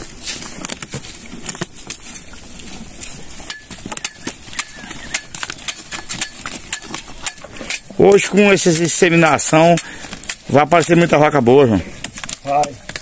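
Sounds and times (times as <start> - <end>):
cattle chewing: 0.0 - 13.0.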